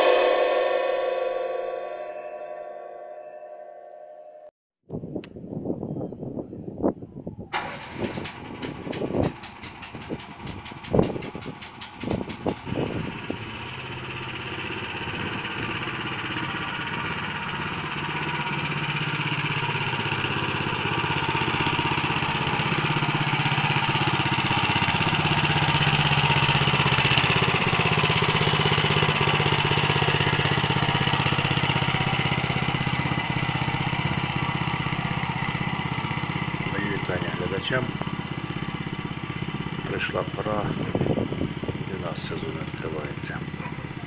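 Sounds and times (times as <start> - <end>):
tractor engine running: 7.5 - 44.0.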